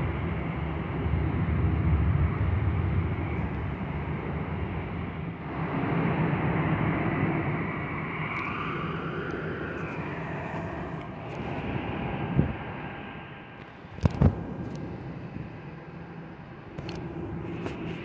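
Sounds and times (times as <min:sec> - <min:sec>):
aircraft engines rumbling: 0:00.0 - 0:18.0
faint high whine: 0:00.0 - 0:18.0.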